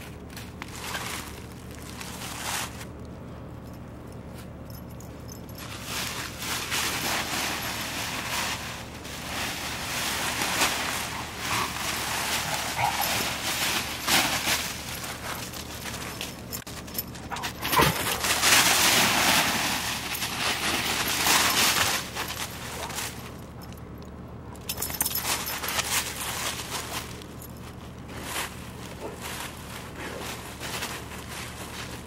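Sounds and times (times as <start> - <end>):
dry leaves crackling and rustling: 0.0 - 3.0, 5.5 - 24.0, 24.6 - 32.0.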